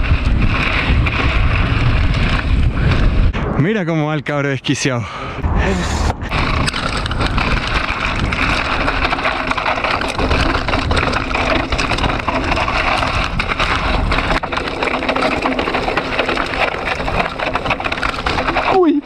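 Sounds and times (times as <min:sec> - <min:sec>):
bike rattling and clicking: 0:00.0 - 0:03.4, 0:06.2 - 0:19.0
bike tyres crunching over gravel: 0:00.0 - 0:03.4, 0:06.2 - 0:19.0
wind rumble on microphone: 0:00.0 - 0:04.6, 0:05.2 - 0:19.0.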